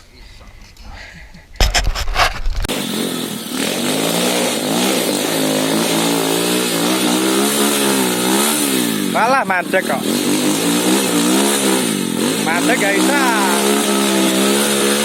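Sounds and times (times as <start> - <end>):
motorcycle engine revving: 2.6 - 15.0.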